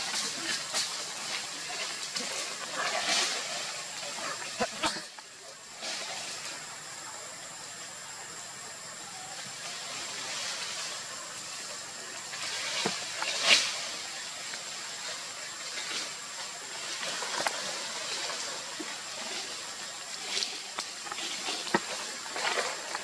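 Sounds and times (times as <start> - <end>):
faint high-pitched whine: 0.0 - 23.0
leaves and branches rustling: 0.0 - 23.0.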